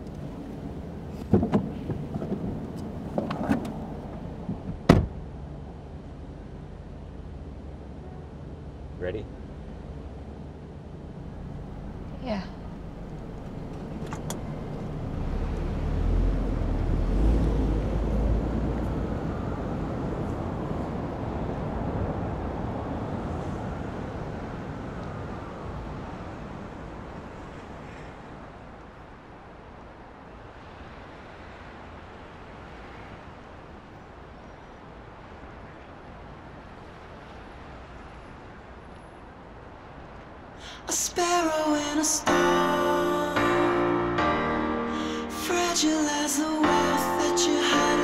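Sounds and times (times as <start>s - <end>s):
car engine and road rumble: 0.0s - 48.0s
distant traffic: 0.0s - 48.0s.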